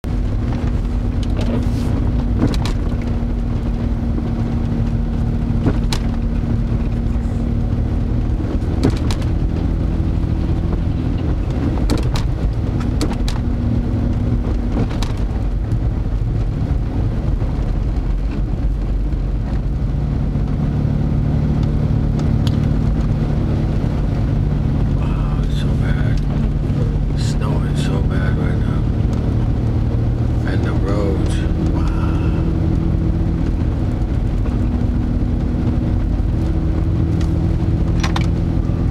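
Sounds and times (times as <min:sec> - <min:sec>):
engine rumble and hum: 0:00.0 - 0:38.9.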